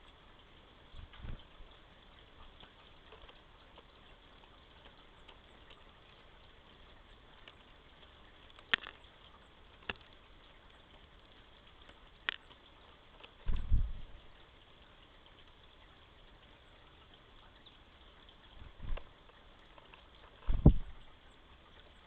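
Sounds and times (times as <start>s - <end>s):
microphone hiss: 0.0s - 22.0s.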